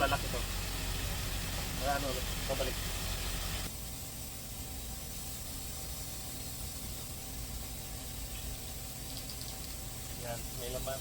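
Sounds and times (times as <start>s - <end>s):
hiss of coolant refill tool: 0.0s - 11.0s.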